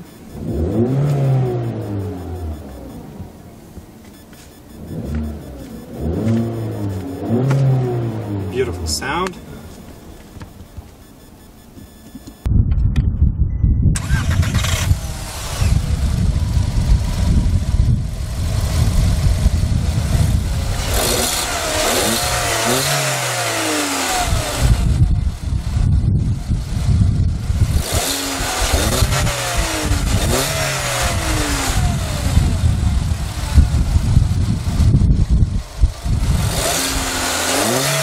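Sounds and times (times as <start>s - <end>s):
car engine revving: 0.0s - 12.4s, 14.0s - 25.5s, 26.6s - 38.0s.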